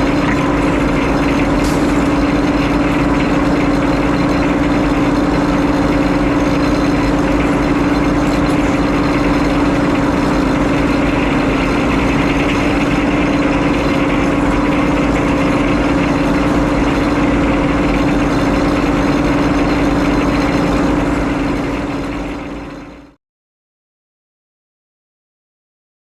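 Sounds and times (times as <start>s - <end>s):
sawmill engine running: 0.0s - 23.2s.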